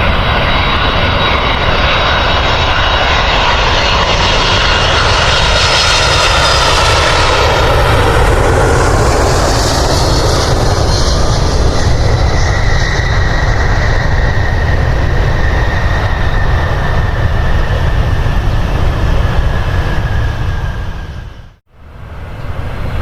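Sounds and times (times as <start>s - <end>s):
high jet engine whine: 0.0s - 23.0s
jet engines rumbling: 0.0s - 23.0s.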